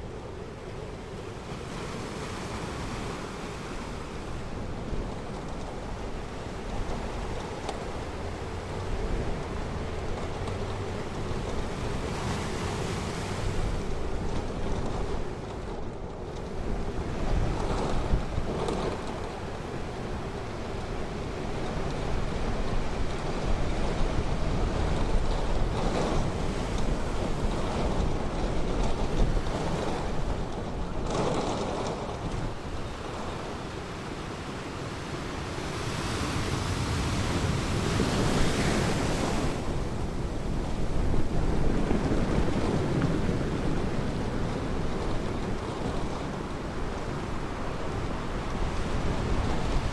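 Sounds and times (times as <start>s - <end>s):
ocean surf washing: 0.0s - 49.9s
wind rumbling on microphone: 0.0s - 49.9s.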